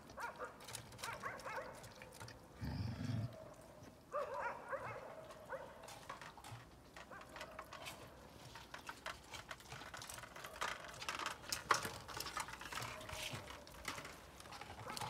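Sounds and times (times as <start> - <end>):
dog chewing and lapping: 0.0 - 15.0.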